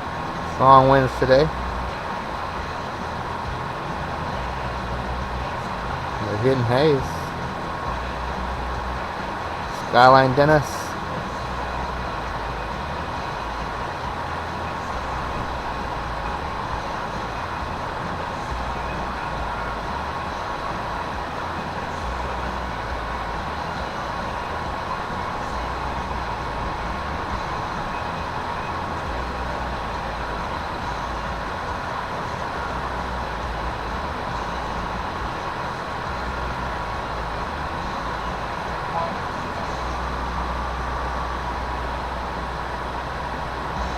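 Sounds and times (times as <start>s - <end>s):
constant high hum: 0.0s - 43.9s
steady hiss: 0.0s - 43.9s.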